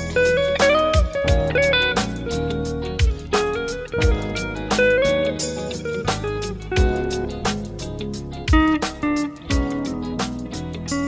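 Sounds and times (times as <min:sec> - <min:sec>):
electric guitar melody: 0:00.0 - 0:11.0.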